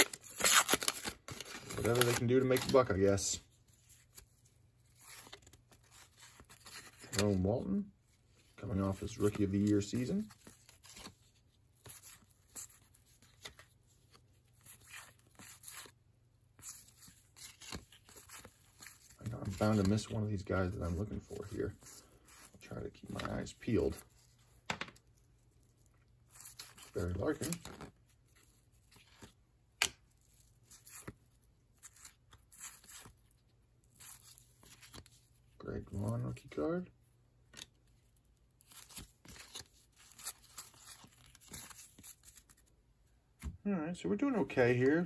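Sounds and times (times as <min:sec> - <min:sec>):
cards rustling: 0:00.0 - 0:36.6, 0:37.4 - 0:42.8.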